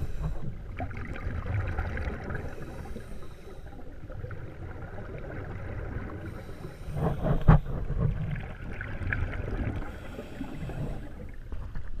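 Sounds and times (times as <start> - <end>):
low underwater rumble: 0.0 - 12.0
scuba exhaust bubbles gurgling: 0.0 - 12.0.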